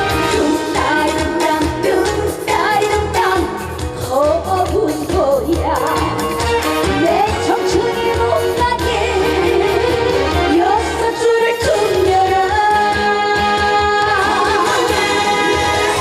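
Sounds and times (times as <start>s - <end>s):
amplified backing band: 0.0s - 16.0s
woman singing with vibrato: 0.0s - 16.0s.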